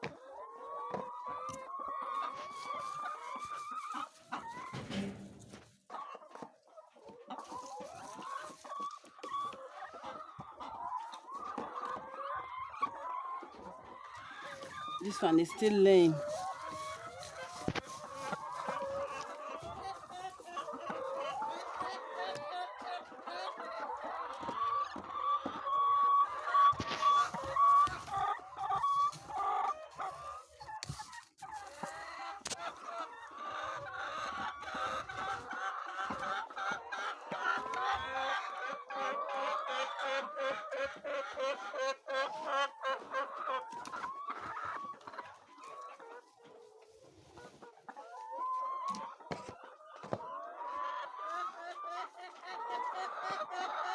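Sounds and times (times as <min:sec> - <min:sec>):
hens clucking: 0:00.0 - 0:53.9.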